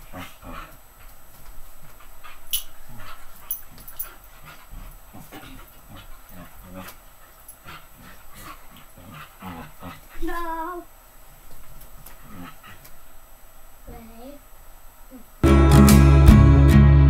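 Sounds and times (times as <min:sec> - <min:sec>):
bedding rustling: 0:00.0 - 0:14.3.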